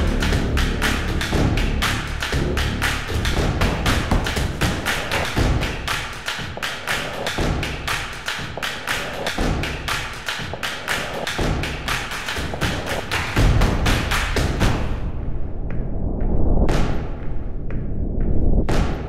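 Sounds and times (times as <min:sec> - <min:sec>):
background music with percussive beat: 0:00.0 - 0:19.0.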